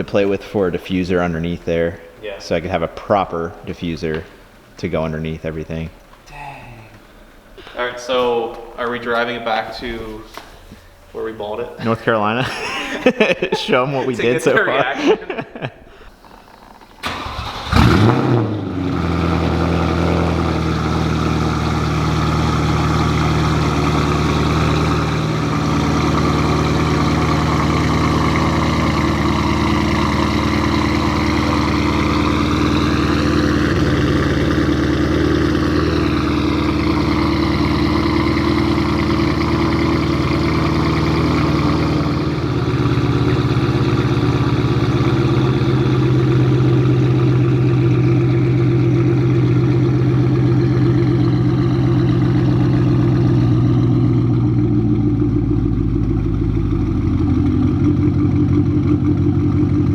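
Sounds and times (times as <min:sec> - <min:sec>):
car engine starting and idling: 0:00.0 - 0:06.2, 0:16.1 - 0:59.9.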